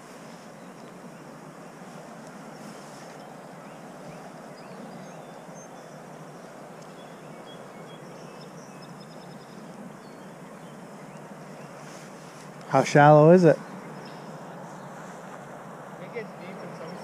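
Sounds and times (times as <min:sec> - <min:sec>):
wind: 0:00.0 - 0:17.0
faint bird chirps: 0:00.3 - 0:12.8, 0:13.4 - 0:15.4, 0:16.0 - 0:17.0.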